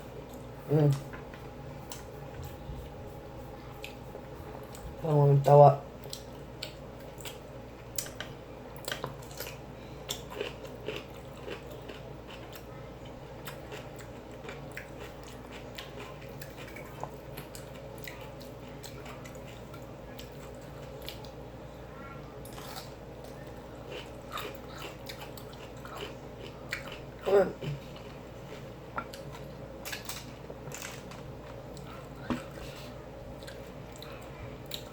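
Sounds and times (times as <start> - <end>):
person chewing food: 0.1 - 5.0, 6.0 - 21.4, 22.4 - 34.9.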